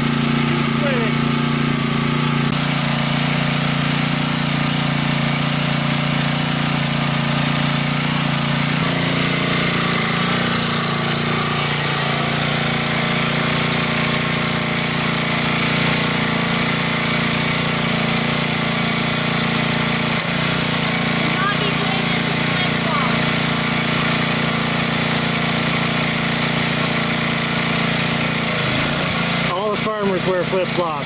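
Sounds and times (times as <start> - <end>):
chainsaw engine running: 0.0 - 31.0.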